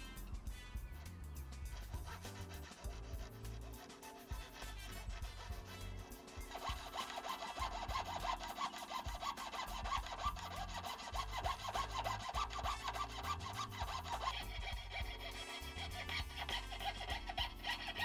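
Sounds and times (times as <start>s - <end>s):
background music: 0.0s - 18.0s
saw cutting through wood: 1.1s - 18.0s.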